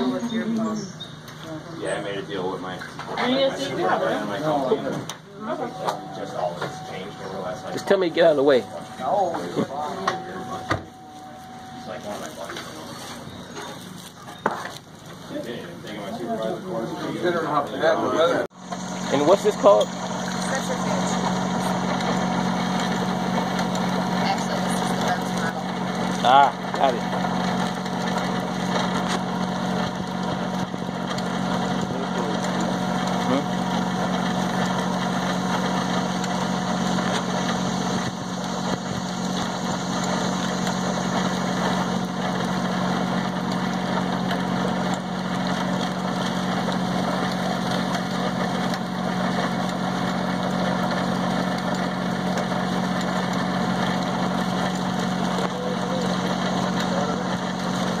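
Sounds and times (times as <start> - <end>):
motor humming: 0.0 - 58.0.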